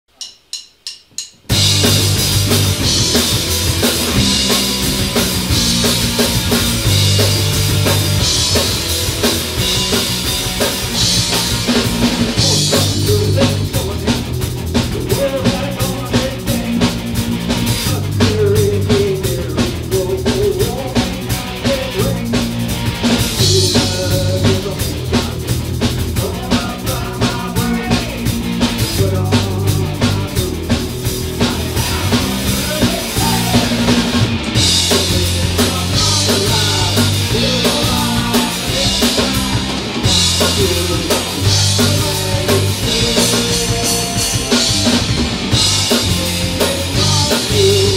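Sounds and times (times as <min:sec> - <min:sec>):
rock band playing: 0:00.7 - 0:47.9.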